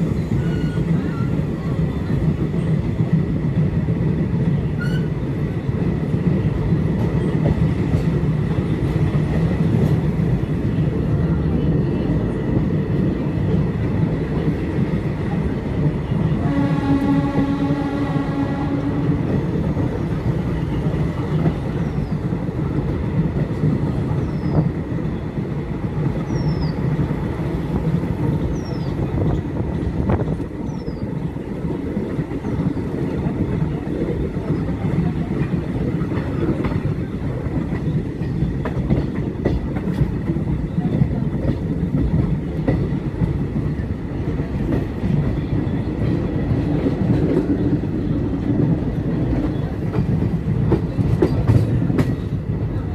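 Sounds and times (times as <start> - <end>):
train rumble and rail clatter: 0.0 - 52.9.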